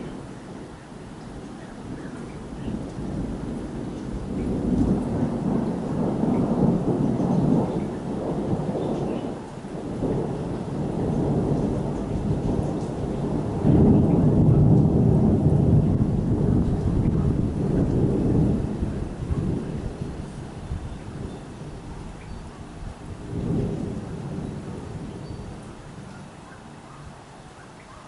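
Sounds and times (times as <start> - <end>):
rolling thunder: 0.0 - 26.8.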